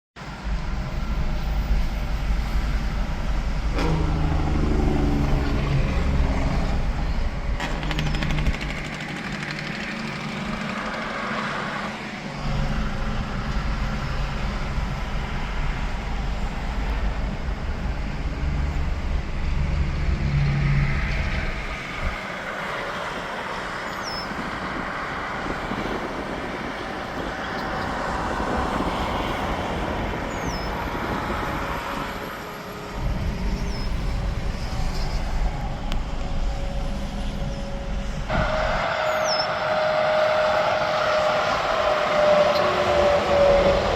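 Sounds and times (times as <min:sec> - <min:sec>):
trucks and cars passing: 0:00.2 - 0:43.9.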